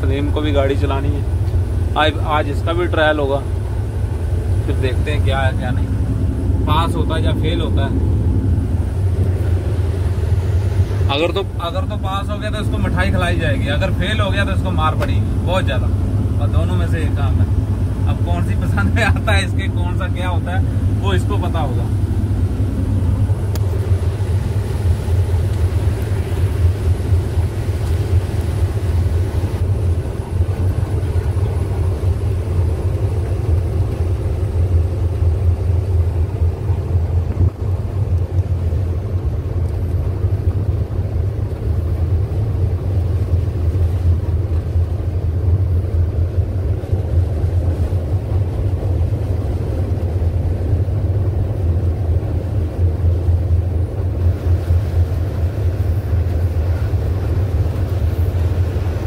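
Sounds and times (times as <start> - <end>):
diesel truck engine drone: 0.0 - 59.0
road noise: 0.0 - 59.0.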